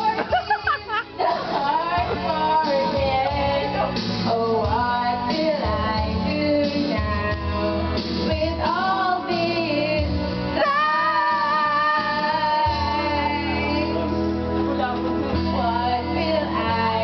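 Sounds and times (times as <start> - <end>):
recorded backing track: 0.0 - 17.0
woman singing karaoke: 0.0 - 17.0.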